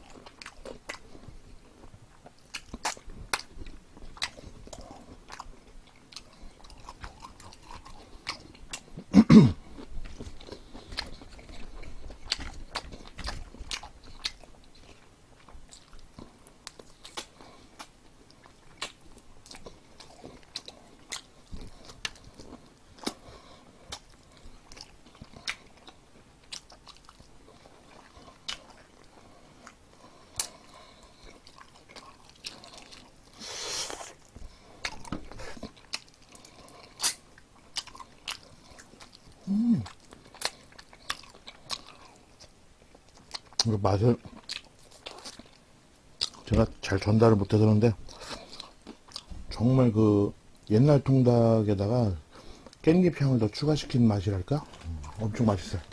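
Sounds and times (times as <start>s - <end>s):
chewing crispy fried chicken: 0.0s - 55.9s.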